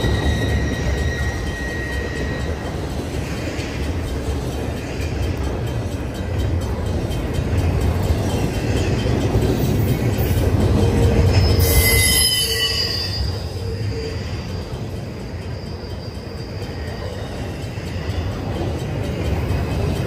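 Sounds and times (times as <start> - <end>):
train wheels squealing: 0.0 - 20.0.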